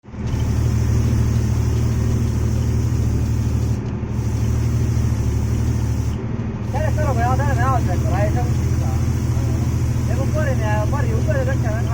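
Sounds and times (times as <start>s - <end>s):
truck engine droning: 0.0s - 11.9s.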